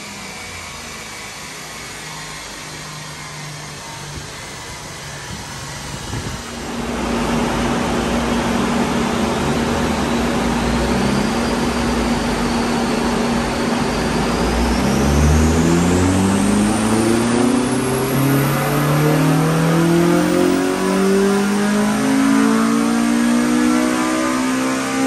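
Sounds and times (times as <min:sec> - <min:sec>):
high whine climbing in pitch: 0:00.0 - 0:25.0
car engine revving: 0:03.1 - 0:25.0.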